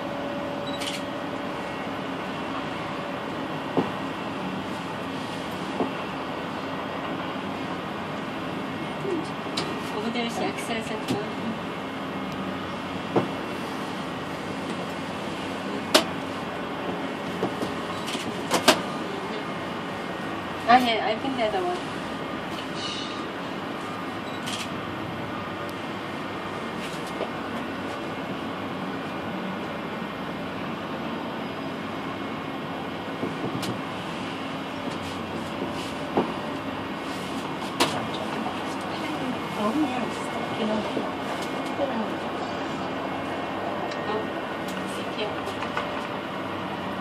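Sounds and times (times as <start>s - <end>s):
cable car hum and rushing: 0.0s - 47.0s.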